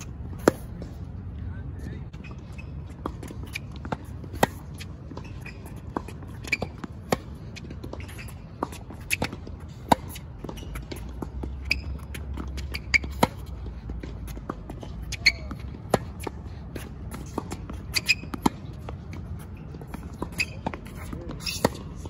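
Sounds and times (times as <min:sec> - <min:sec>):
tennis ball bouncing: 0:00.0 - 0:01.0, 0:02.2 - 0:22.0
rackets striking tennis ball: 0:03.0 - 0:22.0.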